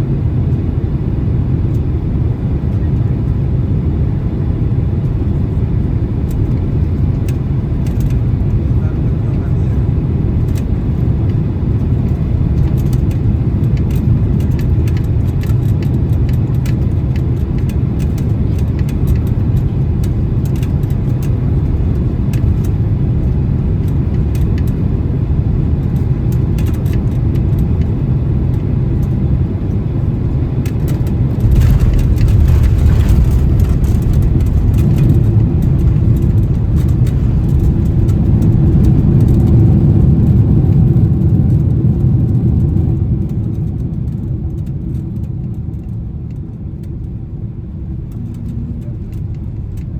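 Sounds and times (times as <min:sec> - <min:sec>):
rumble of jet engines and airflow: 0:00.0 - 0:49.9.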